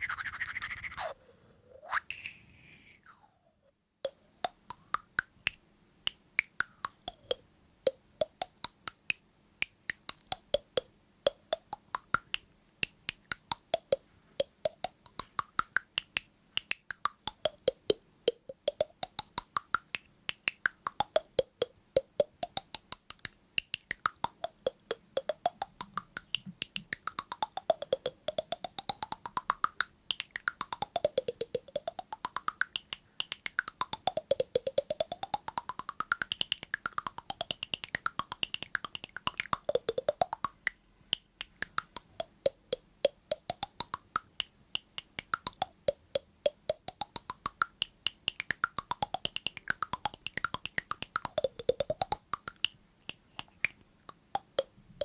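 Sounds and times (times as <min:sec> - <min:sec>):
rapid sharp pitched clicks: 0:04.0 - 0:55.0.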